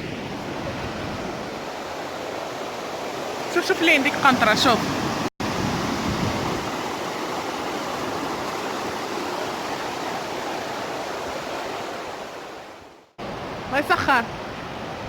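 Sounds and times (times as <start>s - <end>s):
river water rushing over rocks: 1.3s - 15.0s.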